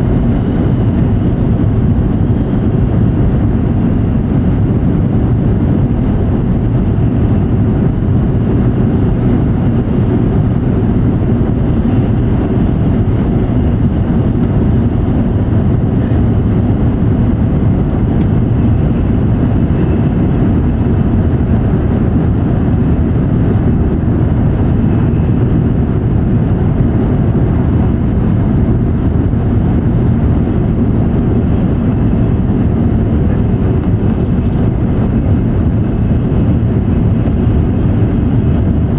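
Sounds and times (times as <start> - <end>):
train rumble inside cabin: 0.0 - 38.9.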